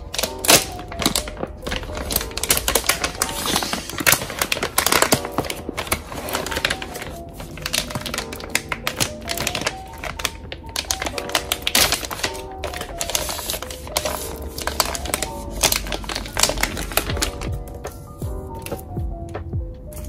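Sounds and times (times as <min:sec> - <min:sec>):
plastic bag crinkling: 0:00.0 - 0:19.0
soft background music: 0:00.0 - 0:20.0.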